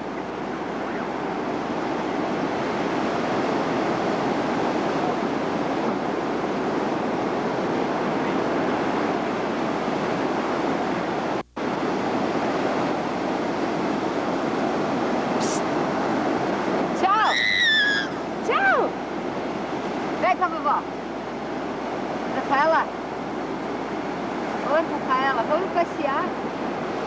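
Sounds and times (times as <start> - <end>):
ocean surf: 0.0 - 27.0
wind on microphone: 0.0 - 27.0.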